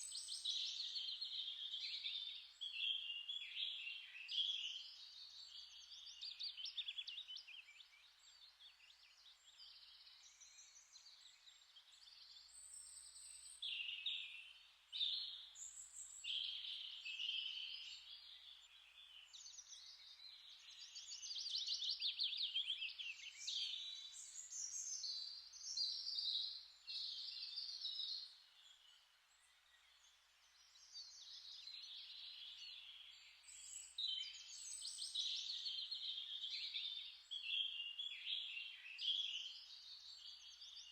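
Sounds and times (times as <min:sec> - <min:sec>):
small birds singing: 0:00.0 - 0:40.9.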